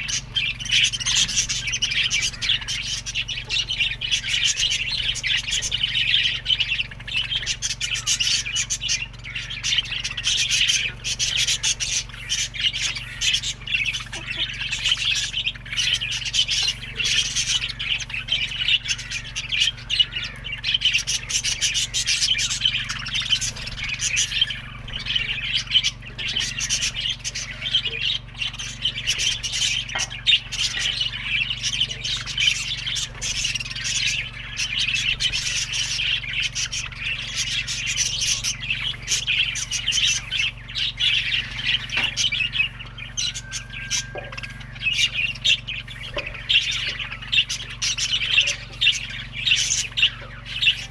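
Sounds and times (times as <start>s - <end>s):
budgerigars chirping: 0.0s - 50.9s
steady low hum: 0.0s - 50.9s.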